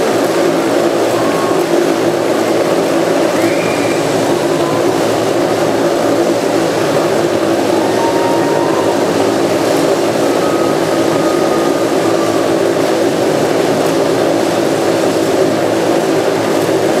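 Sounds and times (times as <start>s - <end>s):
motorcycle engines running loud: 0.0s - 17.0s.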